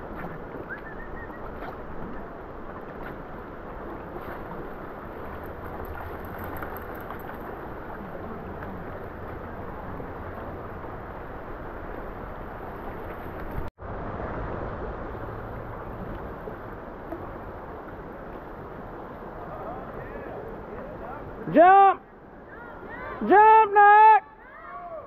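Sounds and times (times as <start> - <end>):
river water flowing over rocks: 0.0 - 23.2.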